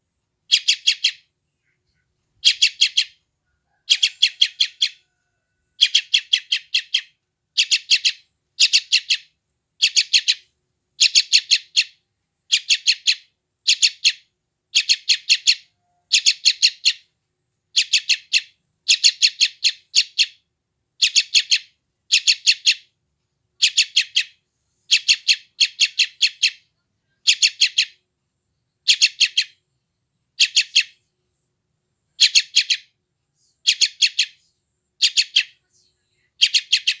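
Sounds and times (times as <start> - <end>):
bird chick chirping: 0.5 - 17.1, 17.7 - 20.4, 21.0 - 22.9, 23.6 - 28.0, 28.8 - 29.6, 30.4 - 31.1, 32.2 - 37.0.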